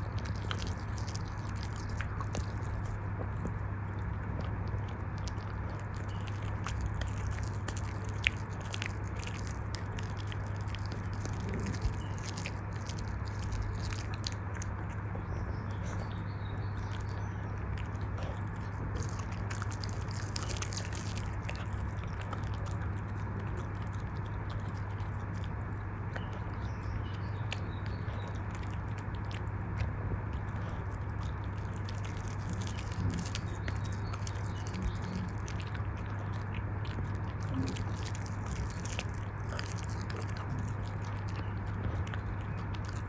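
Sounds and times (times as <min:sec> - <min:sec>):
dog chewing bone: 0:00.0 - 0:43.0
steady low hum: 0:00.0 - 0:43.0.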